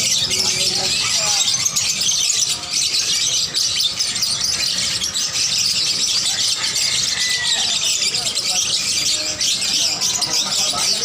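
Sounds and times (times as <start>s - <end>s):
caged small birds chirping: 0.0s - 11.0s.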